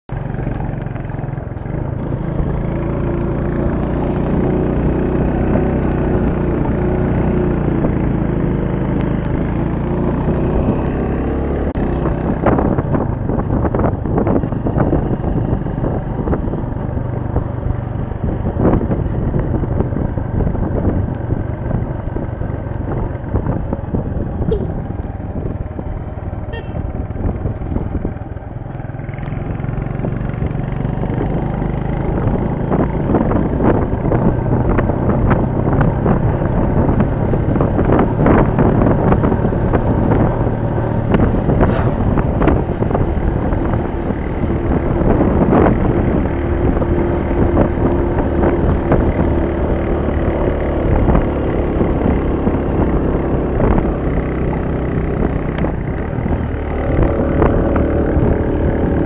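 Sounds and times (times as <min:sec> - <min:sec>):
vehicle engine running: 0:00.1 - 0:59.0.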